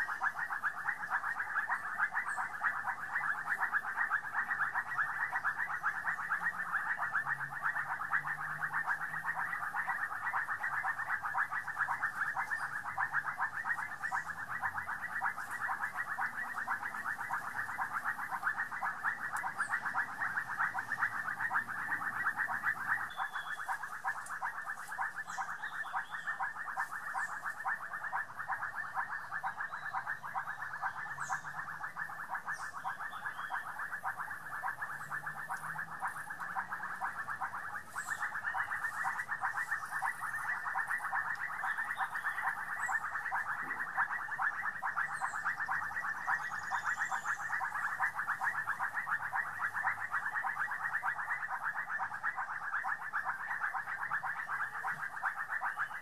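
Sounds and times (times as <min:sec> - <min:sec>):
chorus of fast trilling calls: 0:00.0 - 0:56.0.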